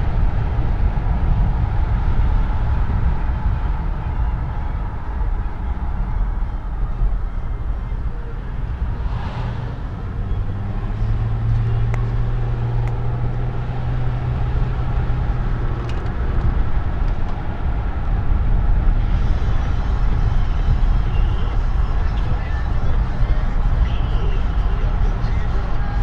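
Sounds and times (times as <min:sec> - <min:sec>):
car road and engine noise: 0:00.0 - 0:26.0
low hum: 0:00.0 - 0:26.0.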